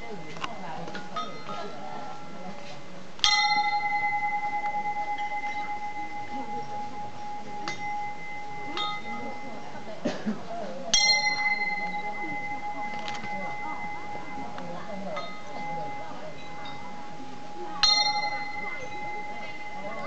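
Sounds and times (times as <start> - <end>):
metal bell ringing: 0.0 - 2.0, 3.2 - 10.0, 10.9 - 17.1, 17.8 - 20.0.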